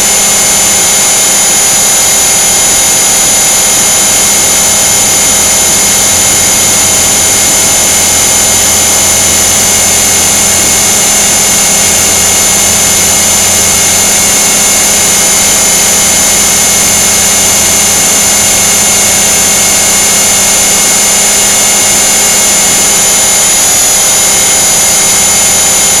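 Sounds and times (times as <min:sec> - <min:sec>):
rc helicopter motor whine: 0:00.0 - 0:26.0
rotor noise: 0:00.0 - 0:26.0.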